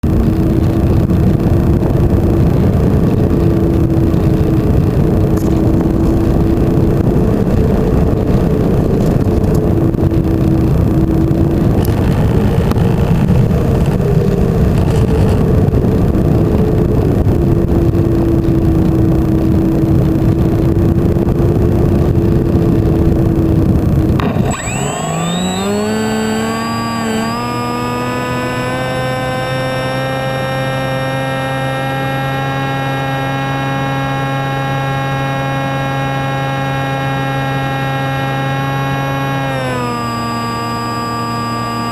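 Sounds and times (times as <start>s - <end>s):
electric motor whine: 0.0s - 41.9s.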